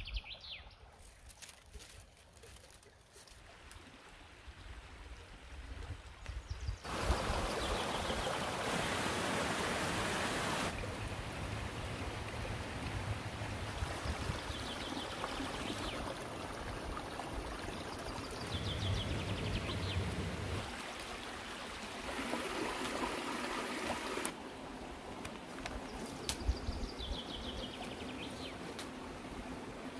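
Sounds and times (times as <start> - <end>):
creek running over stones: 1.0 - 29.9.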